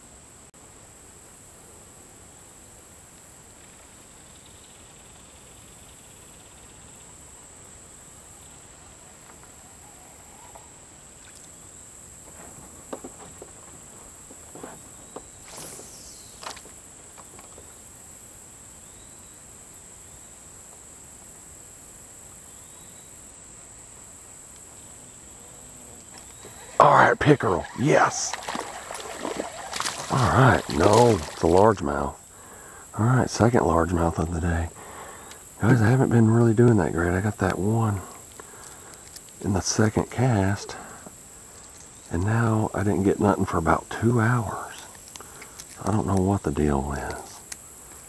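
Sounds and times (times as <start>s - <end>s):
insect chorus droning: 0.0s - 48.0s.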